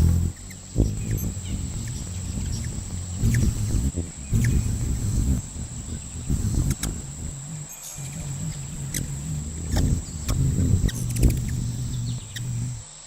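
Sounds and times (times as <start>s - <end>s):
high bird chirps: 0.0s - 12.8s
hummingbird wings humming: 0.0s - 13.0s.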